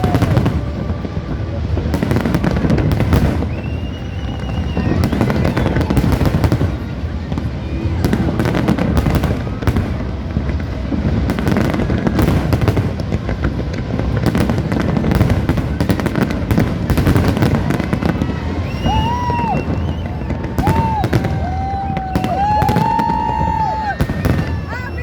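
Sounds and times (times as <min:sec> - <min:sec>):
fireworks bangs and crackling: 0:00.0 - 0:25.0
fireworks whistling: 0:00.0 - 0:25.0.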